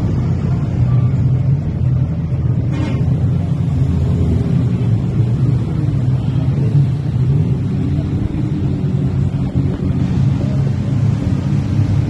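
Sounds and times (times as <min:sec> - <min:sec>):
jet ski engines rumbling: 0:00.0 - 0:12.0.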